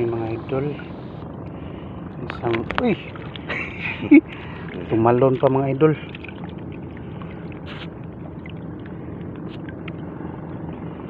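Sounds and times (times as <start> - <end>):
low motor hum: 0.0 - 11.0
water and handling noises: 1.4 - 10.9.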